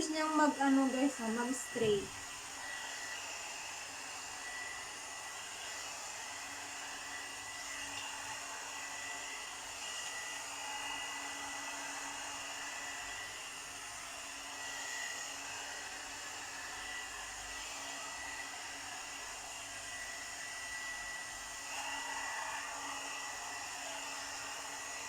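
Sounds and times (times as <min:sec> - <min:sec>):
hair dryer blowing hiss: 0:00.0 - 0:25.0.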